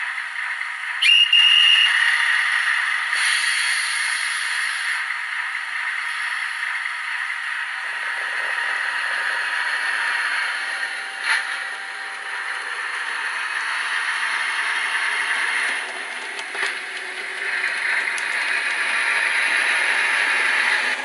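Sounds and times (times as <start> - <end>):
hissy diesel running sound: 0.0 - 21.0.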